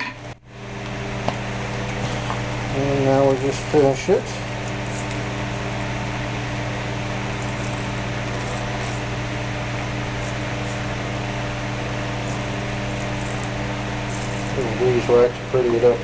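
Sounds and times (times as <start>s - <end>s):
shop machine humming and hissing: 0.0s - 16.0s.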